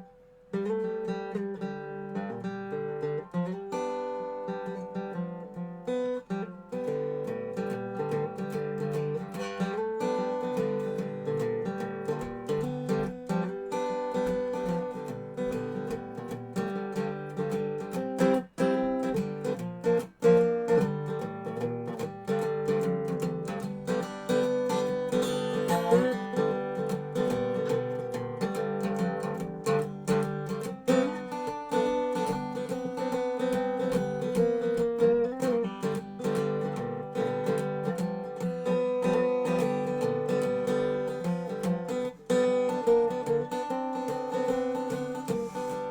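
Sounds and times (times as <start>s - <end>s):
resonator guitar playing blues: 0.0s - 45.9s.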